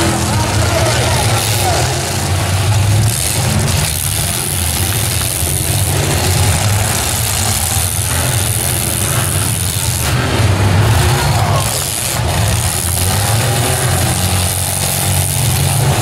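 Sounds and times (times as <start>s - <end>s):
many truck engines running: 0.0s - 16.0s.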